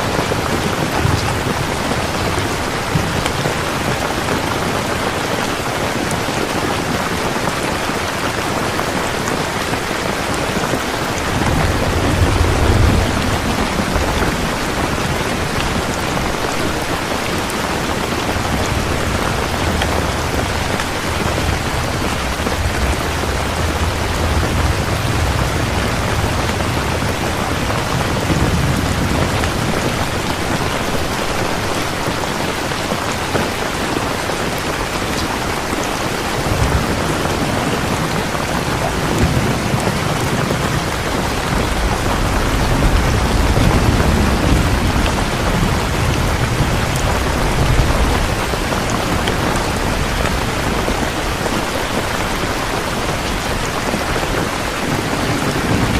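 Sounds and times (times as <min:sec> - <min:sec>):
heavy rain falling: 0:00.0 - 0:55.9
thunder rumbling: 0:00.0 - 0:55.9.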